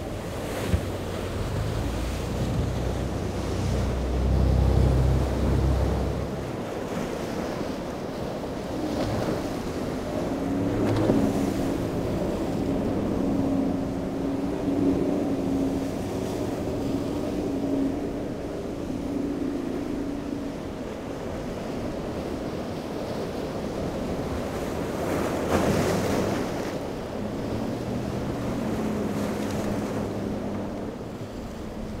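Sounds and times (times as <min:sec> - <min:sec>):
outboard motors running: 0:00.0 - 0:32.0
waves breaking: 0:00.0 - 0:32.0
wind buffeting microphone: 0:00.0 - 0:32.0.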